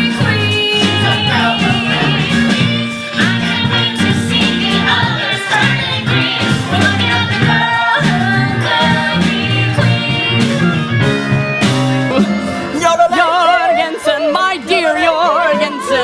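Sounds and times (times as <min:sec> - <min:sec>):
person singing with wide vibrato: 0:00.0 - 0:10.4, 0:12.6 - 0:16.0
voices singing with instruments: 0:00.0 - 0:16.0.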